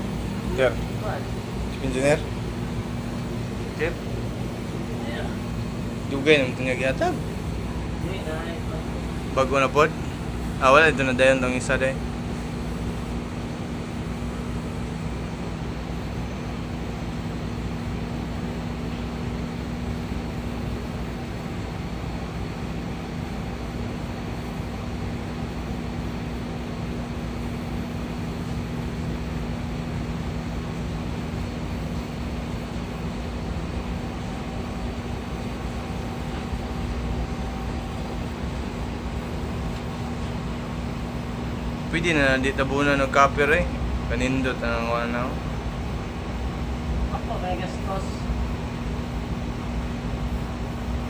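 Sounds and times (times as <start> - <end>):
ship machinery drone: 0.0 - 51.0.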